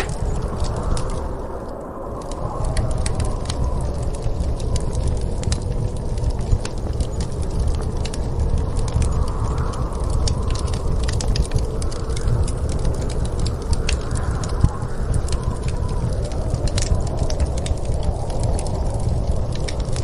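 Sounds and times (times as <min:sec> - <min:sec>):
low rush of wind: 0:00.0 - 0:20.0
wood fire crackling and popping: 0:00.0 - 0:20.0.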